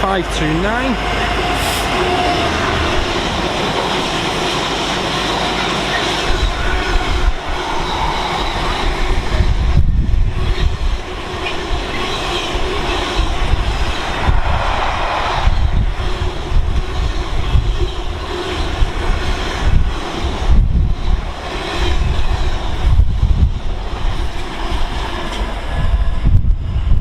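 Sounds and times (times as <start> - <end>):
freight train passing: 0.0 - 27.0.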